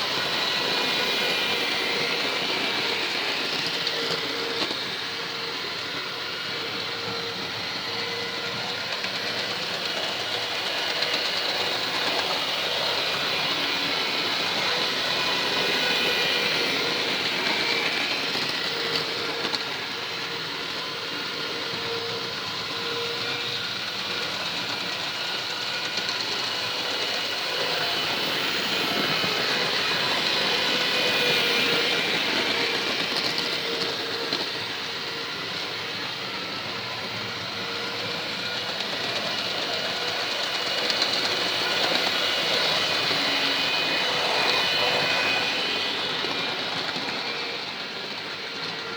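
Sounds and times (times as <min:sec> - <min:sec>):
electric motor whine: 0:00.0 - 0:48.9.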